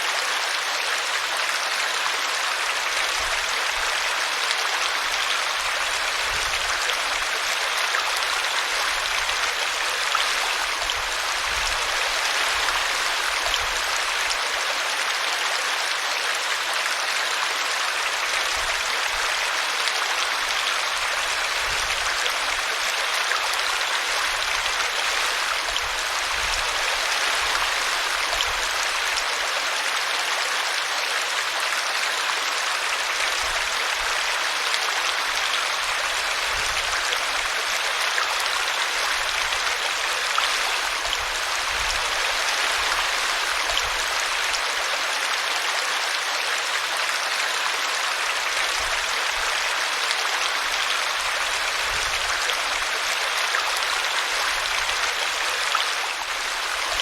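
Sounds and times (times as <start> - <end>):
brook water rushing and splashing: 0.0 - 57.0.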